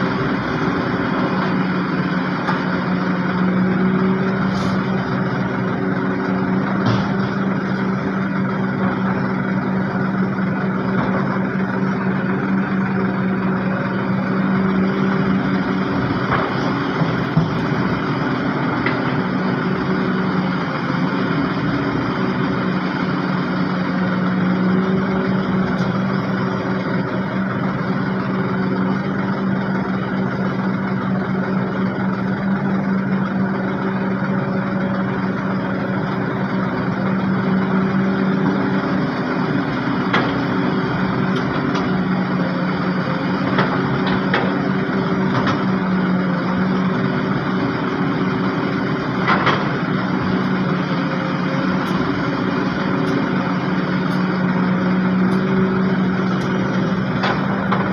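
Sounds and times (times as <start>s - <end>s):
heavy diesel engines running: 0.0s - 57.9s.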